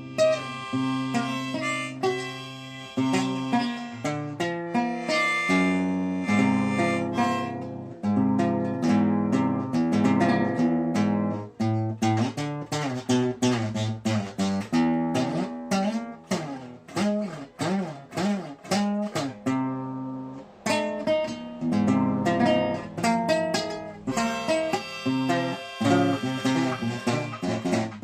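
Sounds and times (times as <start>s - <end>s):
blues tune on plucked strings: 0.0s - 28.0s.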